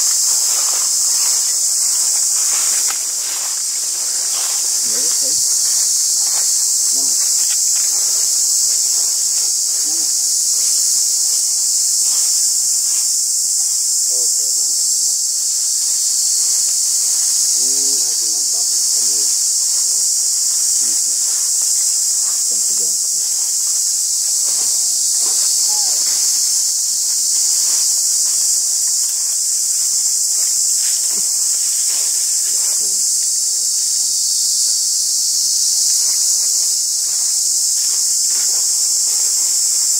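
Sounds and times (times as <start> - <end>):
faint scattered ticks: 0.0 - 39.9
insect chorus drone: 0.0 - 39.9.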